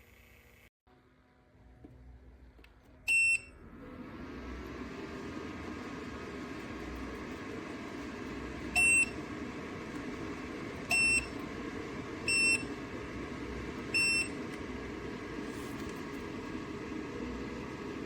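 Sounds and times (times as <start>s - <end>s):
steady whir: 3.2s - 18.0s.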